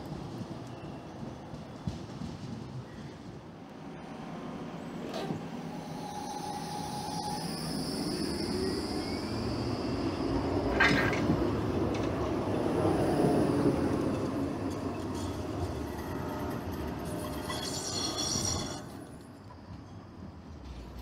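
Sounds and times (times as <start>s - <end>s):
tram rumbling past on rails: 0.0s - 21.0s.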